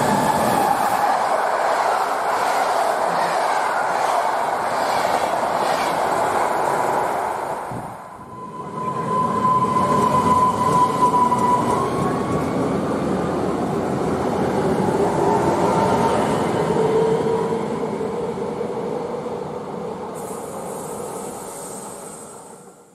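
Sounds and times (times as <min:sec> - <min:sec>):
train rumble with rising whine: 0:00.0 - 0:22.9.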